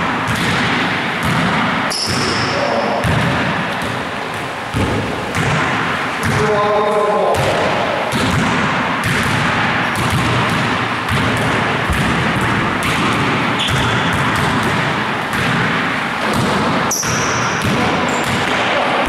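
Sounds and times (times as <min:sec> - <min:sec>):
steady background noise: 0:00.0 - 0:19.0
basketball being passed and caught: 0:00.1 - 0:06.6, 0:07.3 - 0:18.7.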